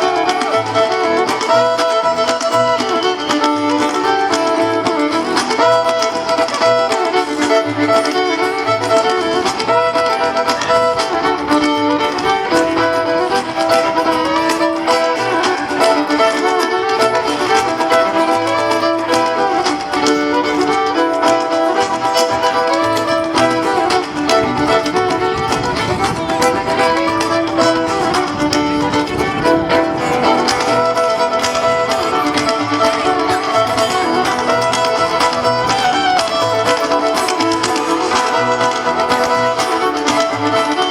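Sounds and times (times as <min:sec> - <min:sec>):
bowed fiddle: 0:00.0 - 0:40.9.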